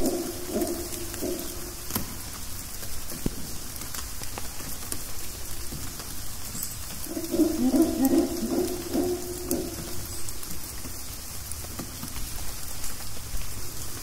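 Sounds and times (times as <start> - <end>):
rain hissing through foliage: 0.0 - 14.0.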